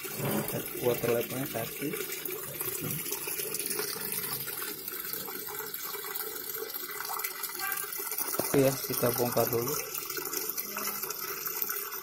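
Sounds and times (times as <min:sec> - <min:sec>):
water pouring into washing machine drum: 0:00.0 - 0:12.0.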